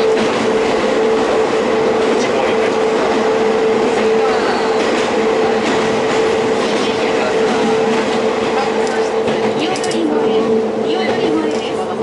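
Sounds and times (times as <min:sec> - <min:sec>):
electric train running hum: 0:00.0 - 0:12.0.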